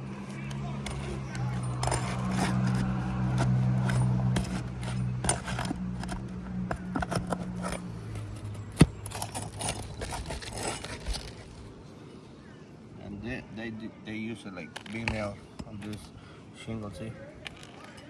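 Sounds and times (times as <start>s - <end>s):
pry bar scraping on shingles: 0.0s - 11.8s, 14.8s - 18.0s.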